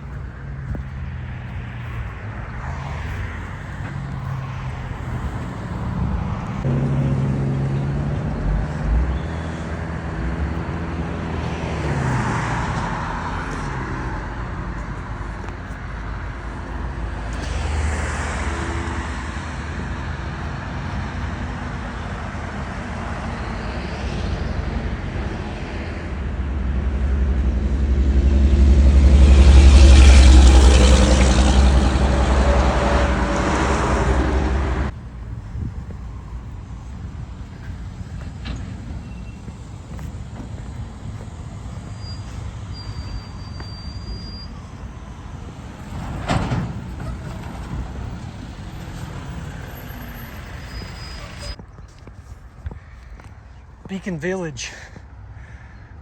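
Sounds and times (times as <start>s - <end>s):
deep vehicle rumble: 0.0s - 56.0s
vehicles passing on road: 0.0s - 56.0s.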